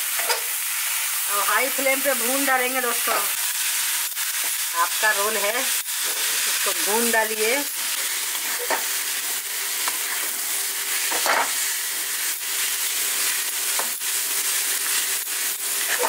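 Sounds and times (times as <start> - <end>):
noodles sizzling in hot oil: 0.0 - 16.0.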